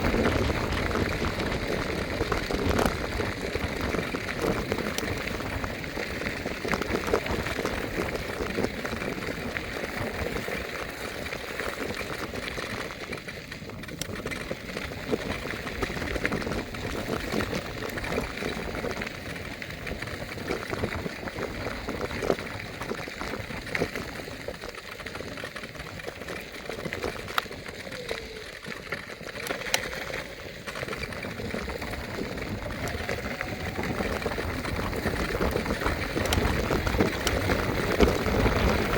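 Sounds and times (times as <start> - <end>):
scooter rattles and knocks: 0.0 - 38.9
wheels rolling on pavement: 0.0 - 38.9
wind on microphone: 0.0 - 38.9.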